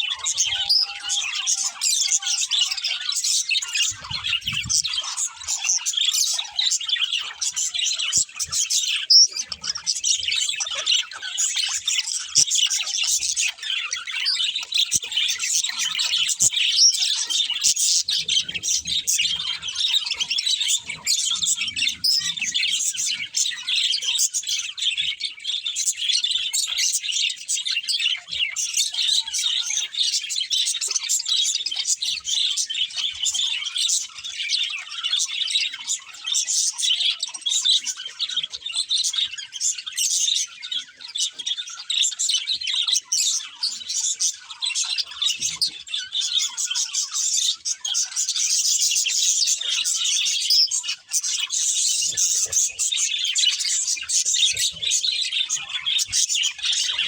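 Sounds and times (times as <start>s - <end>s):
flock of budgerigars chirping: 0.0s - 57.0s.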